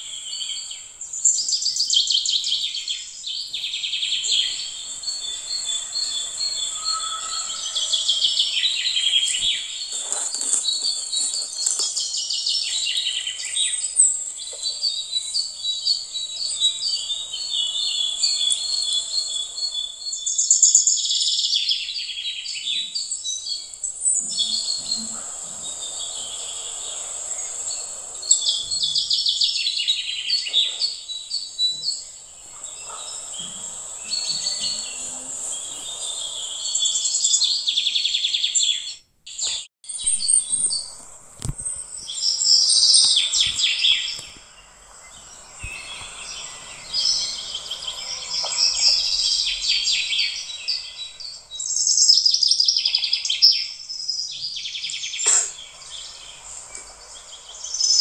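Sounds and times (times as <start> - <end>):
birds chirping: 0.0 - 58.0
steady high hiss: 0.0 - 58.0.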